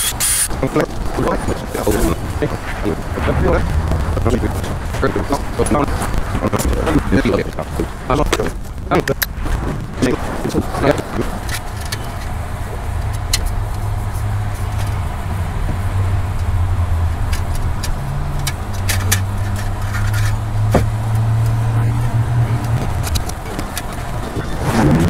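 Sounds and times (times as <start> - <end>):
low motor hum: 0.9 - 10.4, 11.0 - 24.6.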